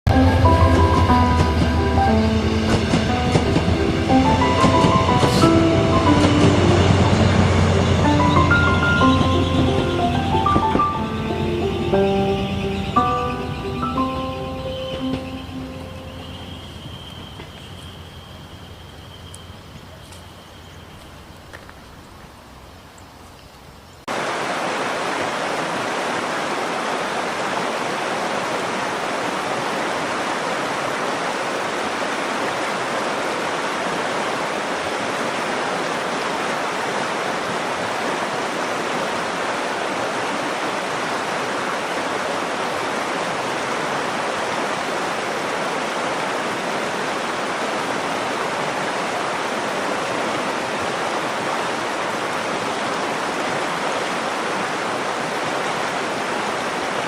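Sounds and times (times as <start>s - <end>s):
river water flowing: 0.1s - 57.0s.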